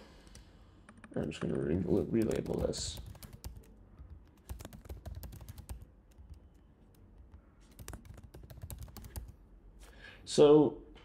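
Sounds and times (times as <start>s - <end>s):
computer keyboard typing: 0.2s - 9.4s.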